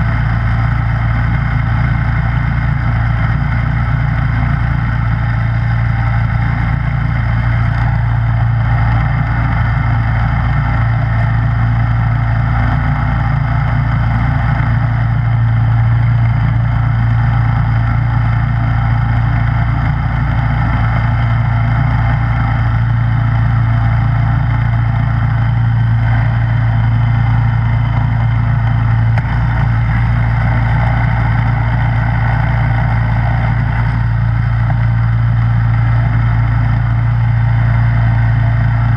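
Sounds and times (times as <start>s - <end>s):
snow blower engine running: 0.0s - 38.9s.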